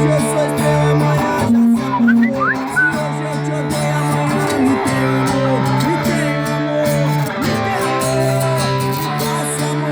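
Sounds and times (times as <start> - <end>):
guitar plucked melody: 0.0 - 9.9.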